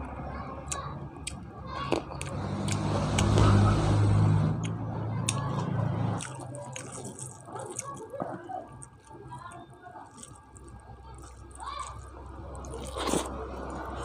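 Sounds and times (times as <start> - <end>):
wet chewing and mouth clicks: 0.0 - 3.7, 4.6 - 14.0
low steady hum: 0.0 - 14.0.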